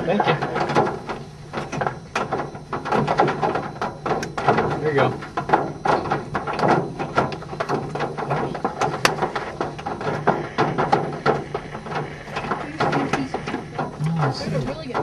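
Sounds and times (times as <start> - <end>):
hailstones hitting a car: 0.0 - 15.0.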